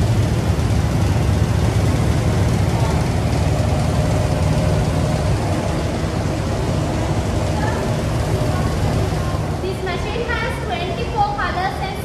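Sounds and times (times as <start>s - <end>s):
machinery low drone: 0.0s - 12.0s.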